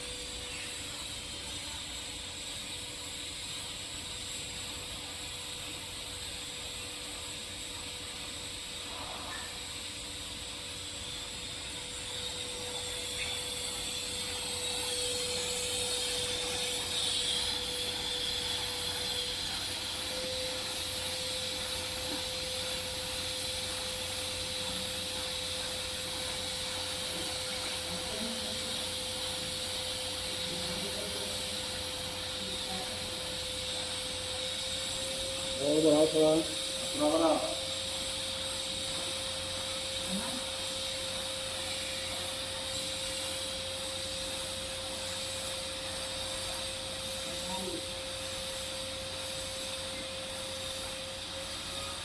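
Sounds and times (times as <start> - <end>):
high hum: 0.0 - 52.0
welding arc hissing: 0.0 - 52.0.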